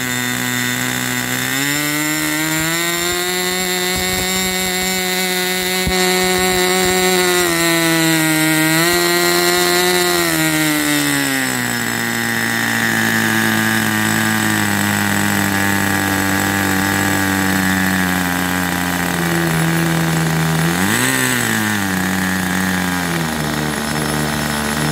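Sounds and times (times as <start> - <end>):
model engine buzzing: 0.0 - 24.9.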